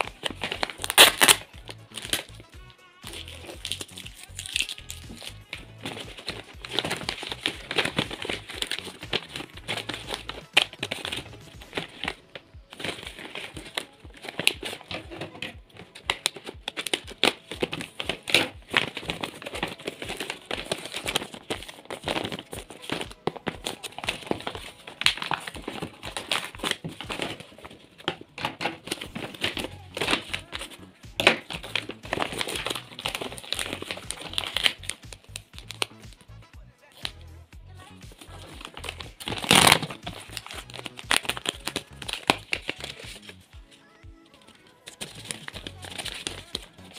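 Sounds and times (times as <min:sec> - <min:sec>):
paper and foil crinkling: 0:00.0 - 0:36.3, 0:38.0 - 0:43.6, 0:44.3 - 0:46.9.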